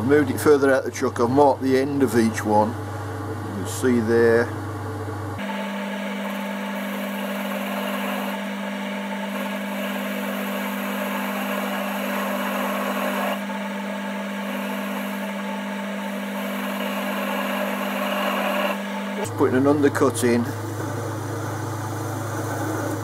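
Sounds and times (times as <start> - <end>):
lathe motor humming: 0.0 - 23.0.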